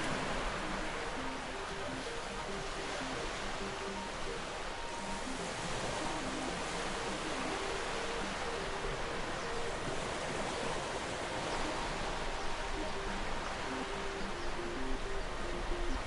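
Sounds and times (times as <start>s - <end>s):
sea waves washing on shore: 0.0s - 16.0s
soft slow melody: 0.0s - 16.0s.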